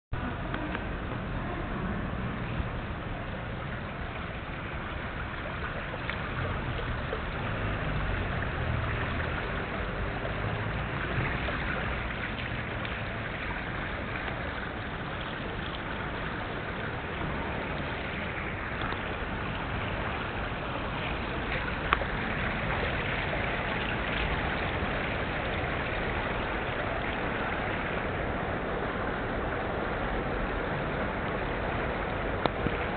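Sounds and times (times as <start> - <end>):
water rushing down fountain: 0.2 - 32.9.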